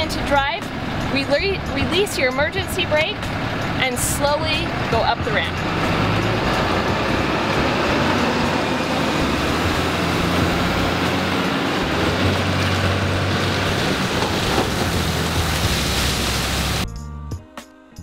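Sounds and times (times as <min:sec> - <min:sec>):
truck engine: 0:00.0 - 0:16.8
road noise: 0:00.0 - 0:16.9.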